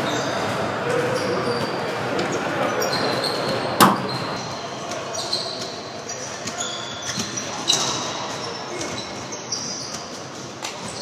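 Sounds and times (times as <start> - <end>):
sneakers squeaking on wooden floor: 0.0 - 11.0.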